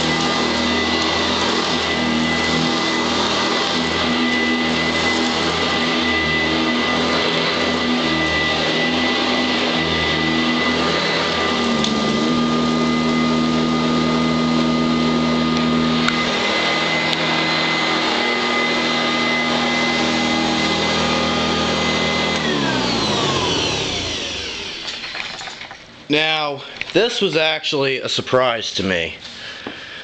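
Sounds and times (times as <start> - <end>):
vacuum cleaner motor whine: 0.0 - 25.5.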